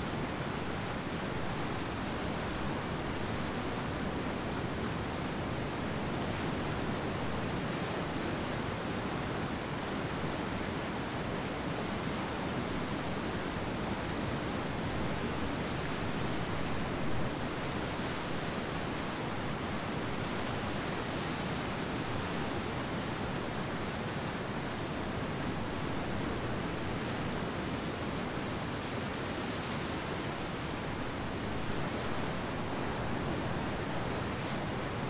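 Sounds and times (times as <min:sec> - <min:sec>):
ocean surf washing onto beach: 0:00.1 - 0:35.0.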